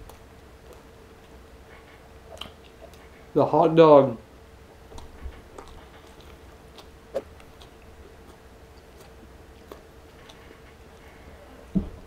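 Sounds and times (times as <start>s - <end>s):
person chewing: 0.0s - 3.3s, 4.9s - 11.7s.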